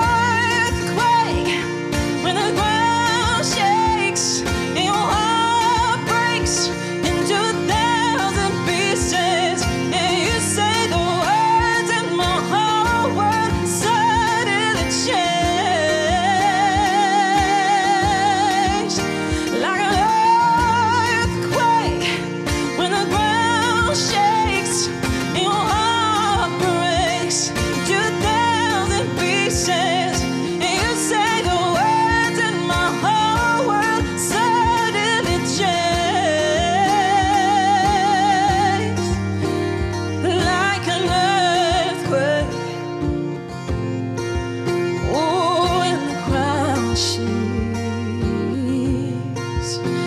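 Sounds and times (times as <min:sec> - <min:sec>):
woman singing with vibrato: 0:00.0 - 0:44.1, 0:44.7 - 0:50.0
acoustic guitar strumming: 0:00.0 - 0:50.0.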